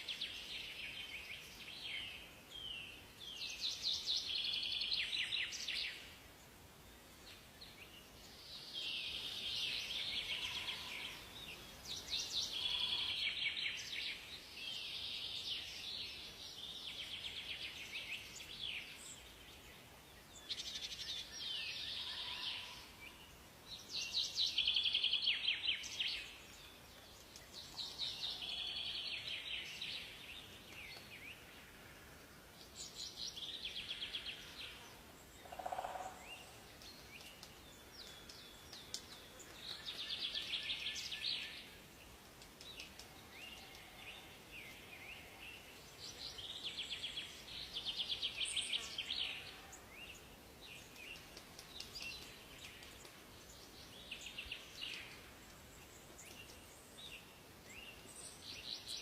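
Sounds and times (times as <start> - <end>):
faint background hiss: 0.0 - 59.0
songbirds trilling: 7.4 - 31.8, 32.6 - 59.0.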